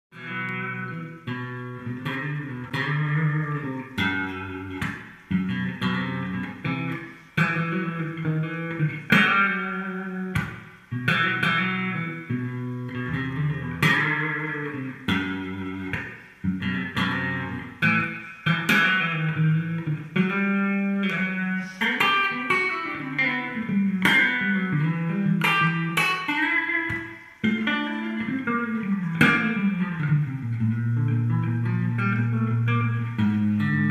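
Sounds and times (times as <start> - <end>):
electric guitar lead melody: 0.1 - 33.9.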